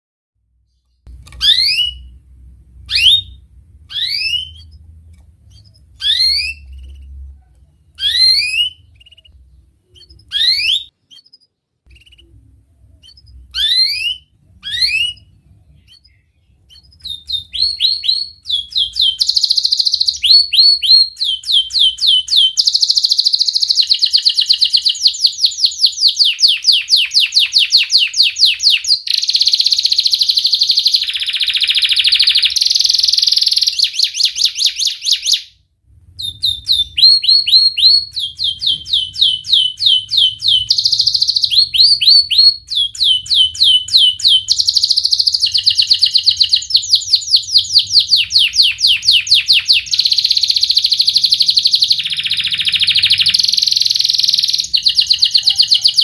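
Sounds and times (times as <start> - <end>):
canary singing: 0.7 - 56.0.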